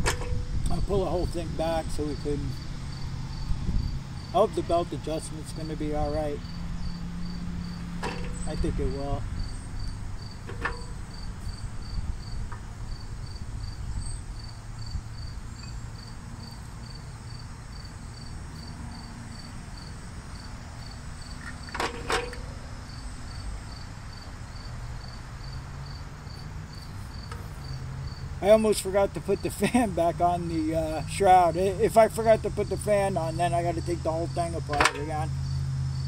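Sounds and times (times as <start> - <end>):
low outdoor rumble: 0.0 - 36.0
insect chirping: 0.3 - 36.0.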